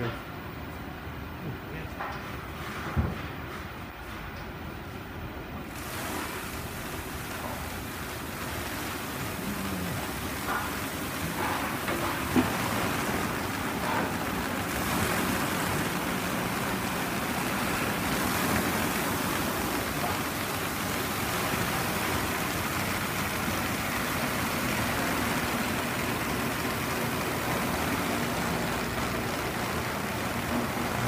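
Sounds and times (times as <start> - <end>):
brush sanding machine running: 5.8 - 31.0.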